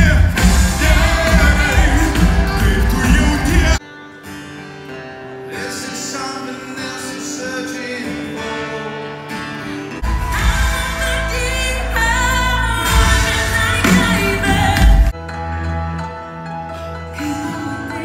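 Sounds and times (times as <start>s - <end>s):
live pop song over sound system: 0.0s - 18.0s.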